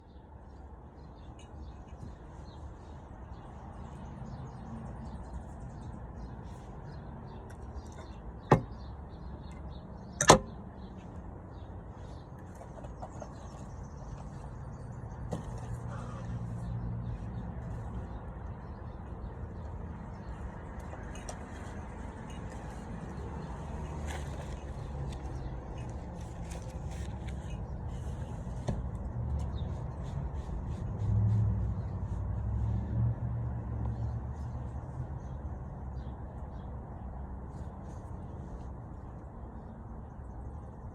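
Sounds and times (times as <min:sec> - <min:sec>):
small birds chirping: 0:00.0 - 0:32.7, 0:33.8 - 0:40.9
passing traffic rumble: 0:00.0 - 0:40.9.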